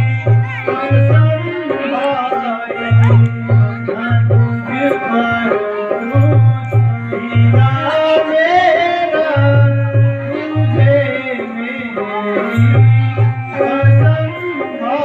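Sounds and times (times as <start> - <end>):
tabla-style drumming: 0.0 - 15.0.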